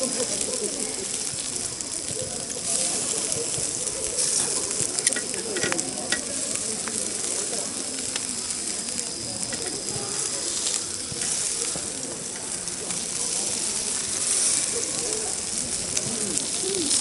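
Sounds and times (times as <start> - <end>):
meat sizzling on grill: 0.0 - 17.0
pops and crackles: 0.0 - 17.0.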